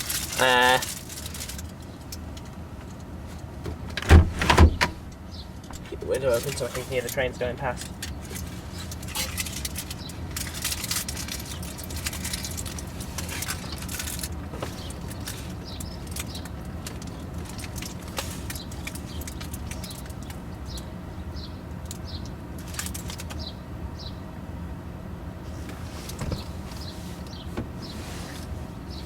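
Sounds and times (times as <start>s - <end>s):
crackly rustling: 0.0s - 23.5s, 25.4s - 29.0s.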